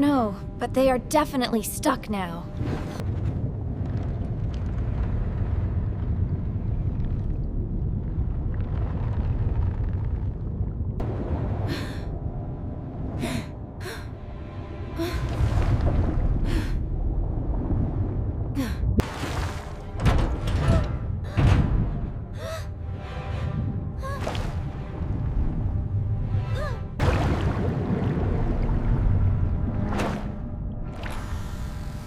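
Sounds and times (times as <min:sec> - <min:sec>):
low rumble: 0:02.0 - 0:32.0.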